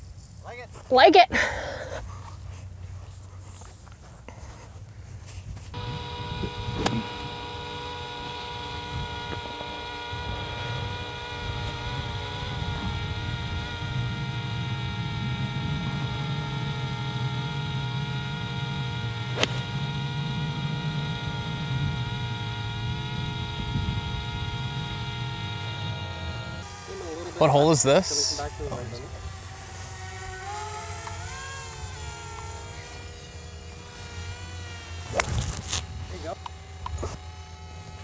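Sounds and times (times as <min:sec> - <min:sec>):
golf cart motor hum: 0:05.7 - 0:38.0.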